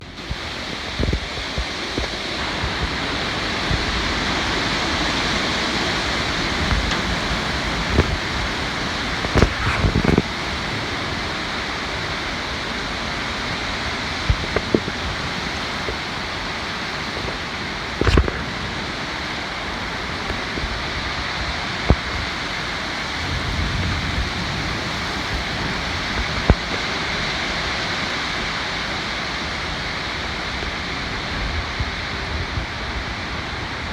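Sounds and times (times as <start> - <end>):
storm winds rushing: 0.0 - 33.9.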